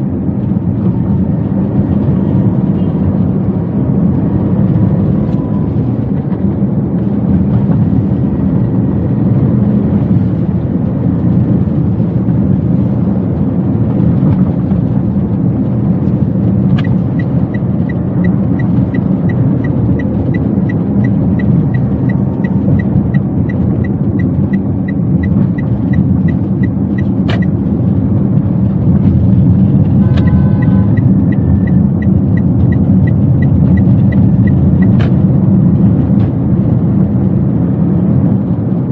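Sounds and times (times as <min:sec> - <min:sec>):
car road and engine rumble: 0:00.0 - 0:38.9
turn signal ticking: 0:00.0 - 0:38.9.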